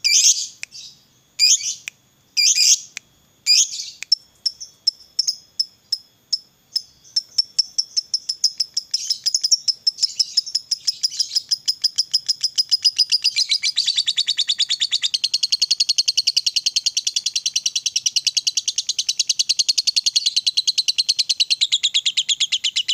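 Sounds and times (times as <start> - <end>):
bird chirping and chattering: 0.0 - 1.8, 2.4 - 6.0, 6.7 - 22.9.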